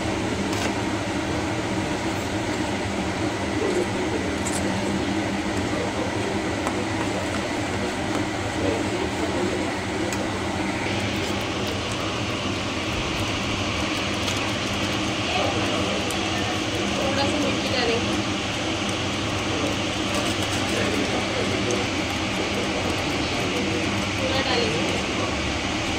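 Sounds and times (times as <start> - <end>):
steady machine hum: 0.0 - 25.9.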